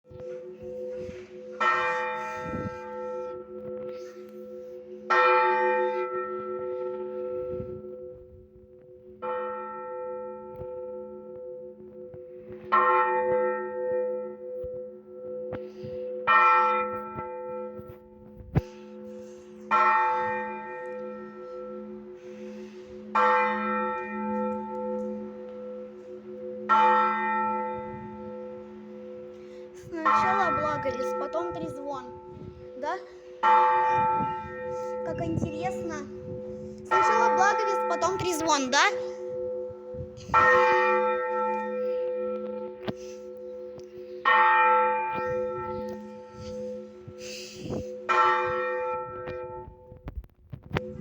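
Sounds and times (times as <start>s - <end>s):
church bell ringing: 0.0s - 50.0s, 50.8s - 51.0s.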